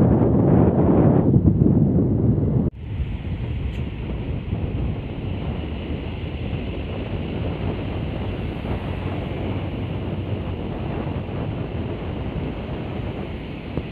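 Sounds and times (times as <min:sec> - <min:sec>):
road and engine noise: 0:00.0 - 0:13.9
wind noise on microphone: 0:00.0 - 0:13.9.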